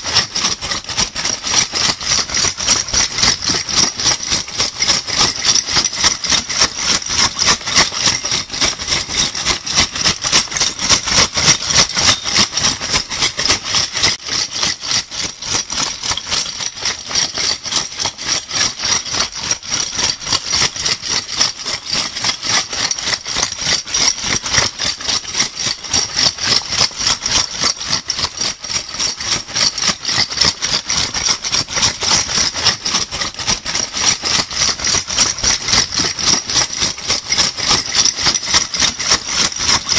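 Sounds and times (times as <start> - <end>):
bottle caps rattling in bag: 0.0 - 39.9.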